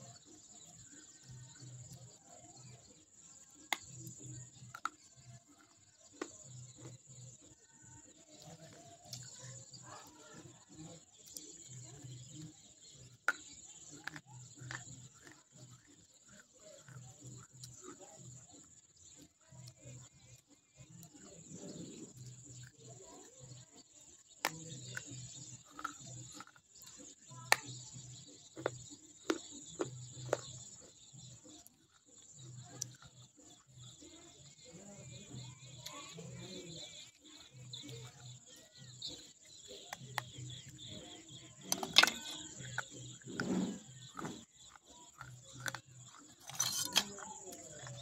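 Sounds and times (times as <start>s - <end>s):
chewing and crunching: 0.0s - 48.0s.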